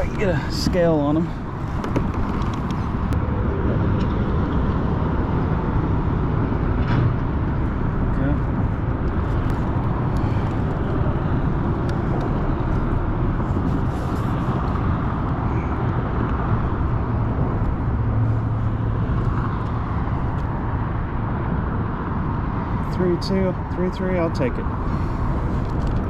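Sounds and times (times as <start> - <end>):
vehicle passing hum: 0.0 - 23.9, 24.5 - 26.0
road traffic rumble: 0.0 - 26.0.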